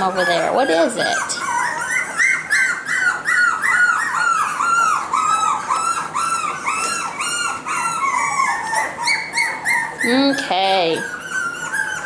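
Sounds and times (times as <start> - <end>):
puppies yipping: 0.0 - 12.0.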